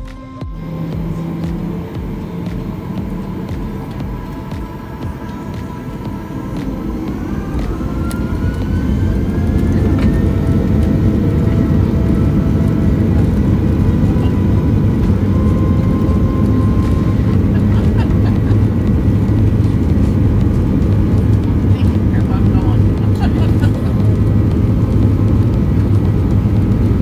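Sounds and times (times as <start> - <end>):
faint rising whine: 0.0 - 27.0
jet engine rumble: 0.0 - 27.0.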